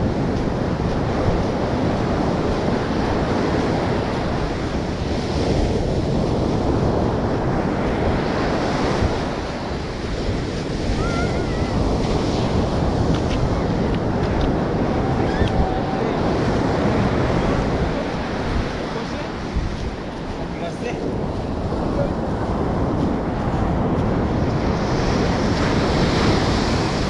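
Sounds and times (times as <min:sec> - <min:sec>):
ocean surf breaking on beach: 0:00.0 - 0:27.0
wind buffeting microphone: 0:00.0 - 0:27.0.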